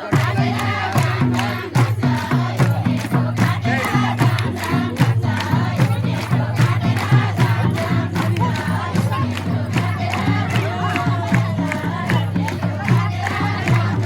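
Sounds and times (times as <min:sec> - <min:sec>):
crowd noise: 0:00.0 - 0:14.0
group singing over fast beat: 0:00.0 - 0:14.0.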